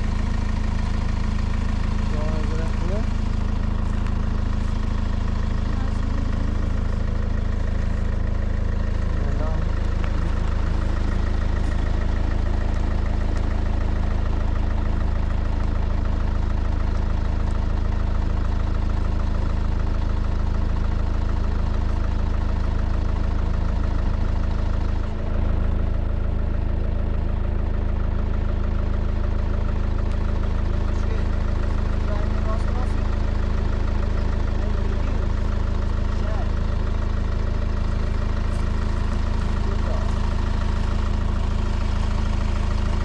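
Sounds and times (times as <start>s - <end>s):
vehicle engine droning: 0.0s - 43.0s.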